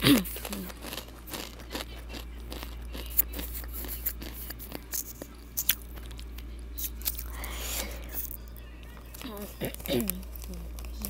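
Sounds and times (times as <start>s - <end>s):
chips crunching while chewed: 0.0s - 11.0s
low electrical hum: 0.0s - 11.0s.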